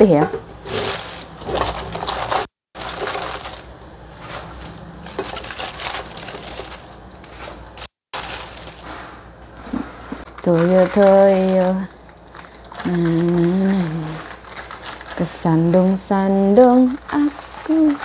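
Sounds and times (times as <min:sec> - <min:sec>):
cabbage leaves rustling and crunching: 0:00.6 - 0:09.2, 0:10.2 - 0:18.0.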